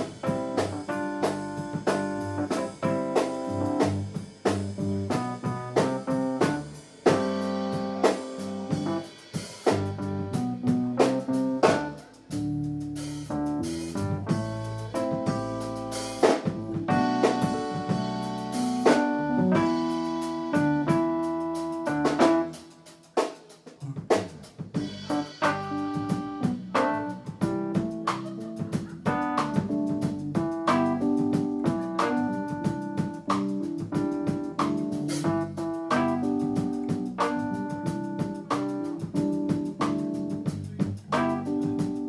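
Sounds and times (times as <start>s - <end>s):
electric keyboard melody: 0.0s - 23.1s, 24.8s - 42.0s
guitar: 0.0s - 23.1s, 24.7s - 42.0s
drums: 0.0s - 42.0s.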